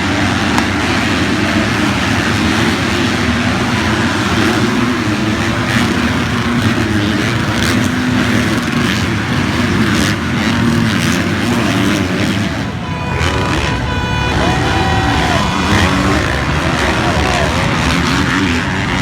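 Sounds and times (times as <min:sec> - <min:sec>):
dirt bike engines running hard: 0:00.0 - 0:19.0.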